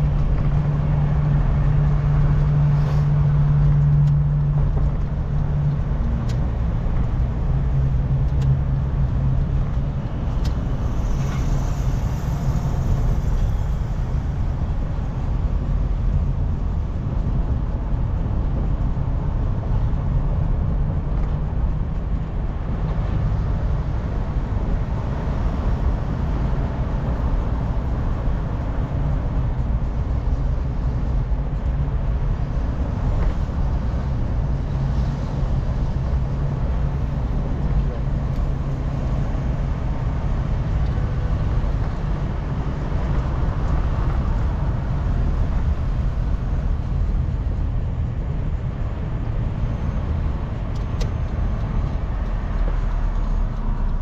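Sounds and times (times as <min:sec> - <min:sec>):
car engine hum: 0:00.0 - 0:54.0
road rumble: 0:00.0 - 0:54.0.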